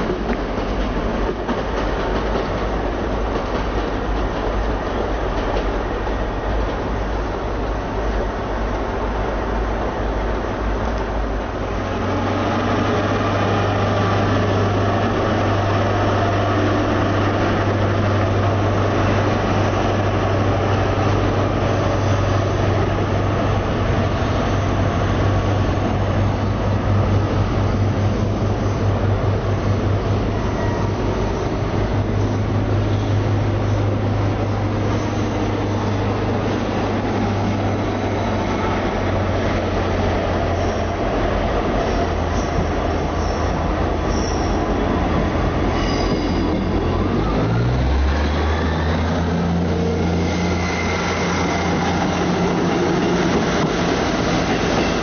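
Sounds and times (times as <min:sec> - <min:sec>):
train engine humming: 0:00.0 - 0:55.0.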